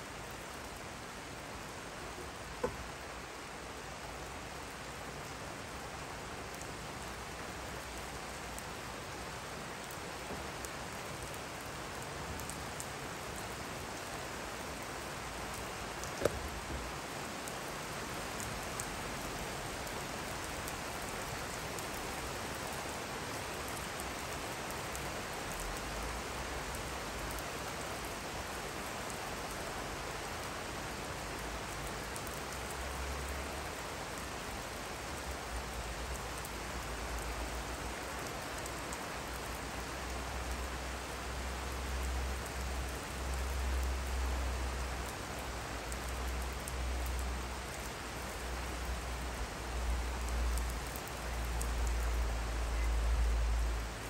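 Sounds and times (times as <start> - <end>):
rain falling on lawn and decking: 0.0 - 54.0.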